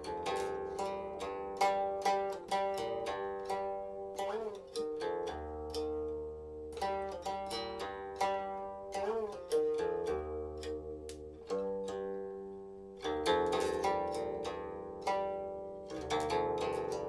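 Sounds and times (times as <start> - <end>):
zither plucked notes: 0.0 - 17.0.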